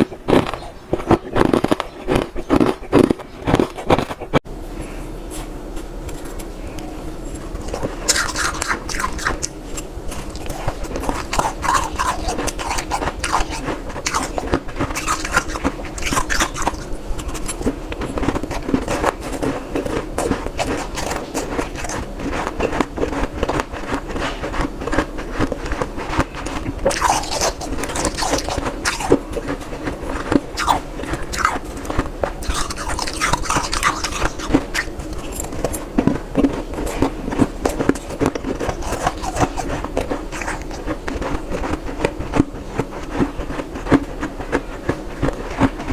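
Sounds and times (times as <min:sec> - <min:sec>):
ice being chewed: 0:00.0 - 0:04.4, 0:07.2 - 0:45.9.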